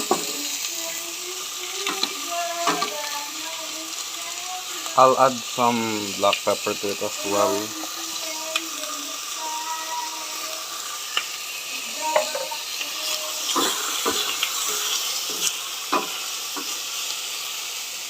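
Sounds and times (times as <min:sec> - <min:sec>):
chicken sizzling in a pan: 0:00.0 - 0:18.0.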